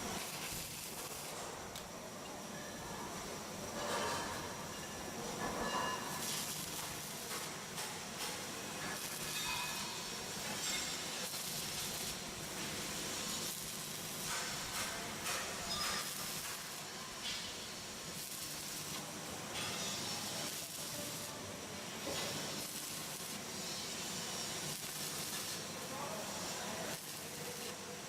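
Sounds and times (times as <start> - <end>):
welding arc crackling hiss: 0.0 - 28.0.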